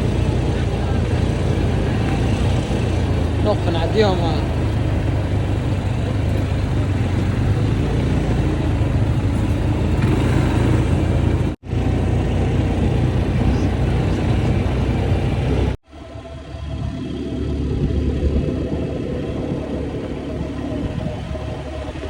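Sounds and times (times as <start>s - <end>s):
quad bike engines rumbling: 0.0s - 22.0s.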